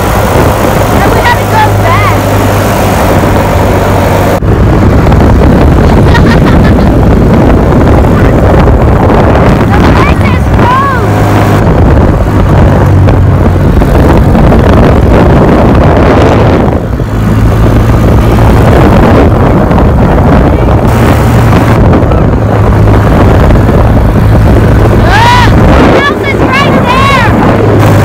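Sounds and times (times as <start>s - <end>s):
vehicle engine running: 0.0s - 28.0s
wind buffeting microphone: 0.0s - 28.0s.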